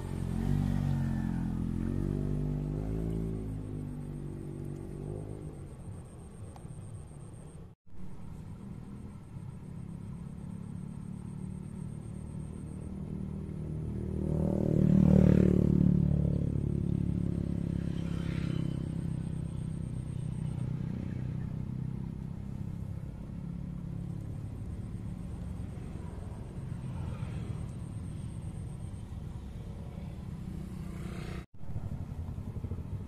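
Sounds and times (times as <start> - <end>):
vehicle passing close by: 0.0 - 6.4, 9.9 - 33.0
road traffic rumble: 0.0 - 33.0.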